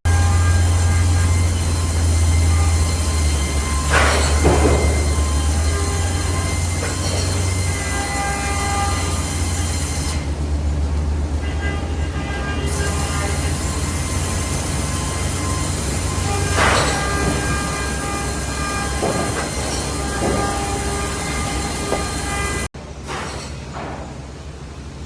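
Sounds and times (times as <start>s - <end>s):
bandsaw running: 0.1s - 10.7s, 12.4s - 22.7s.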